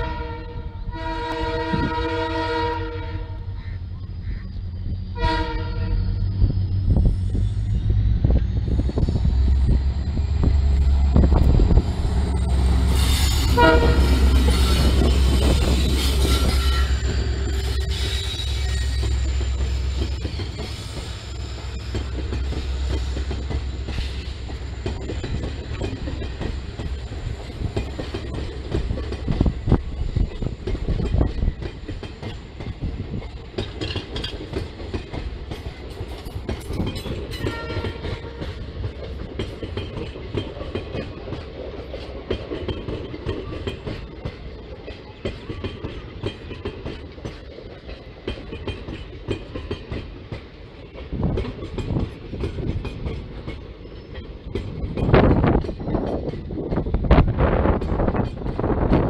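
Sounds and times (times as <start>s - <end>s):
train clanks: 0.0s - 59.0s
train wheels clattering: 3.6s - 59.0s.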